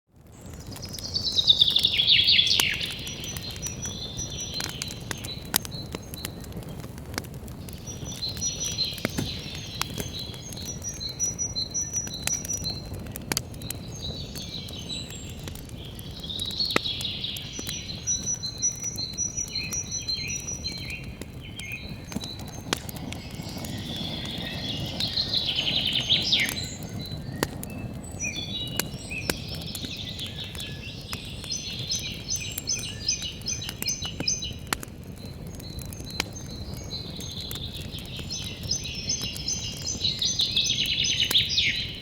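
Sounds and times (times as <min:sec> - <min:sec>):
campfire crackling and popping: 0:00.1 - 0:42.0
songbirds singing and chirping: 0:00.2 - 0:42.0.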